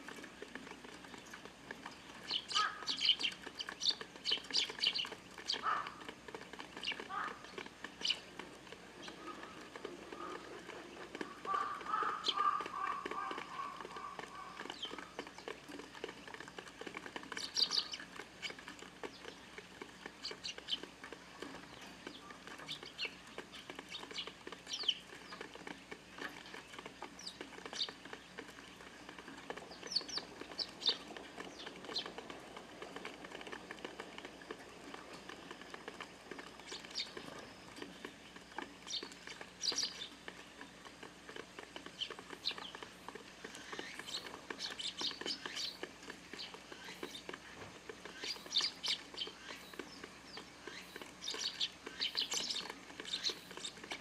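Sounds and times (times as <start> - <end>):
sparrows chirping: 1.0 - 8.4, 9.0 - 32.4, 36.3 - 40.7, 41.8 - 54.0.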